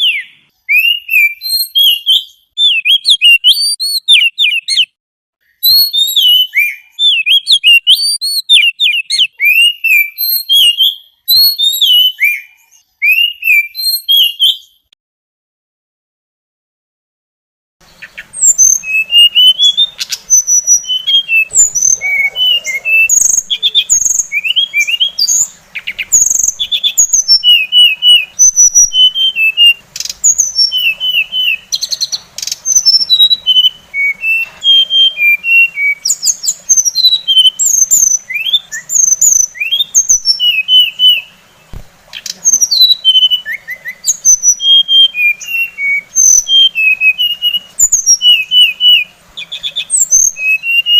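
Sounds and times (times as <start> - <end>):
songbird singing: 0.0 - 15.0, 17.8 - 50.9.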